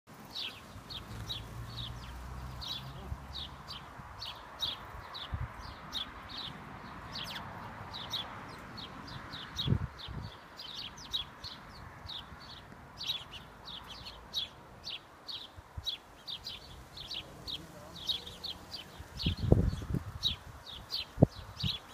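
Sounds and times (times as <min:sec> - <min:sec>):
sparrow chirping: 0:00.1 - 0:21.9.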